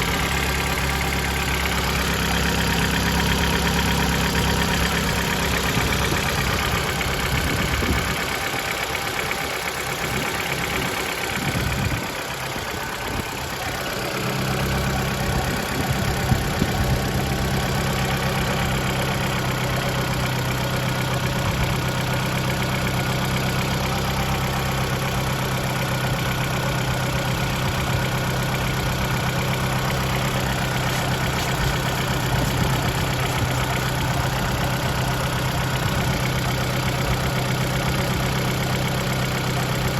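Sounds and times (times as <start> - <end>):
car engine idling: 0.0 - 39.9
dull engine knock: 0.0 - 39.9.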